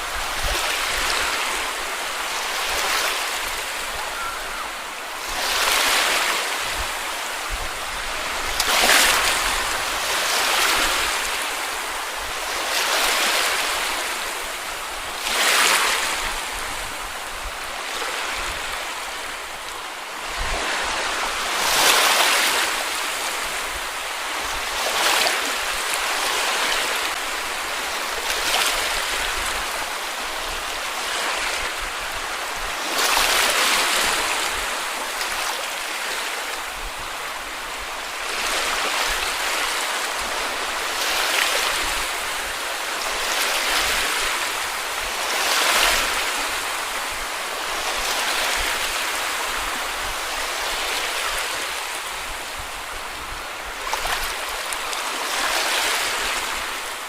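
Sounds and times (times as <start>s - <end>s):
sea waves washing onto beach: 0.0s - 57.0s.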